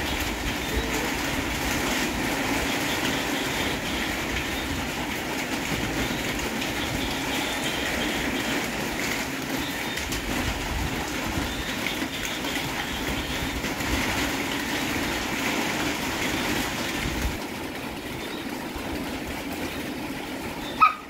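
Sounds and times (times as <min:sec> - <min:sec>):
steady rain hiss: 0:00.0 - 0:20.3.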